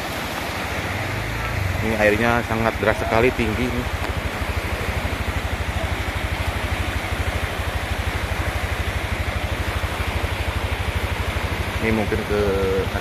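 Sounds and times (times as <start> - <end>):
flooded river roaring: 0.0 - 13.0
low throbbing: 0.7 - 13.0.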